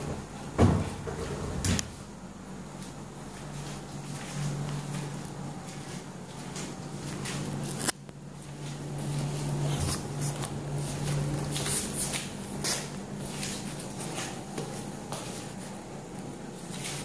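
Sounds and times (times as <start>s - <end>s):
low steady hum: 0.0s - 17.0s
scuffs and rustles on tile floor: 2.7s - 17.0s.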